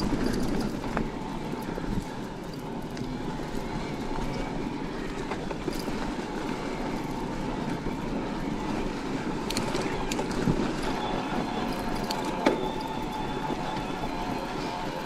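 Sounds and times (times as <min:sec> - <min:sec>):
bike clicks and rattles: 0:00.0 - 0:15.0.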